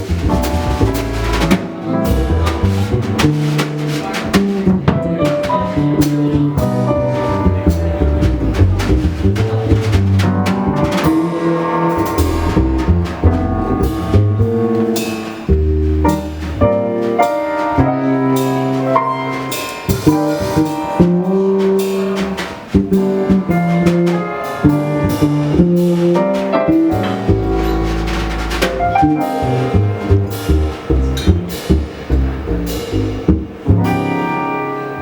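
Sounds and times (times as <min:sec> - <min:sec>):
drum kit: 0:00.0 - 0:34.8
double bass: 0:00.0 - 0:35.0.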